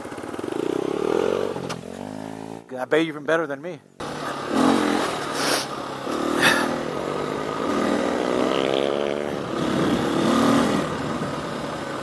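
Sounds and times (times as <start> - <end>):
dirt bike engine running: 0.0 - 2.6, 4.0 - 12.0.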